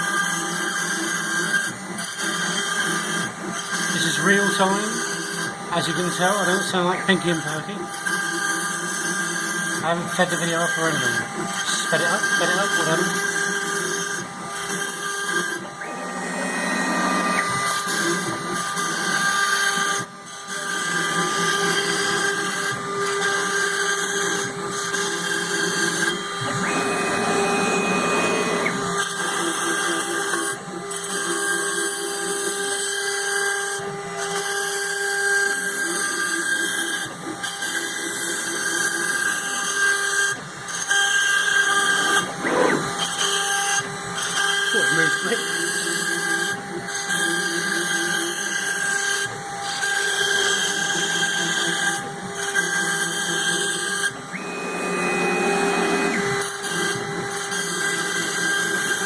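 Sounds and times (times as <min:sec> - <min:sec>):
bit cutting wood: 0:00.0 - 0:59.0
router spindle whining: 0:00.0 - 0:59.0.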